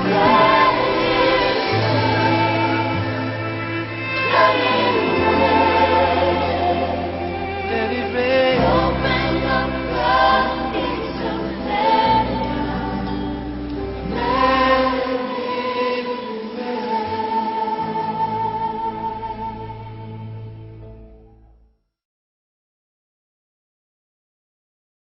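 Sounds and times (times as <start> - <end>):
choir singing held notes: 0.0 - 20.3
sustained bass: 0.0 - 21.7.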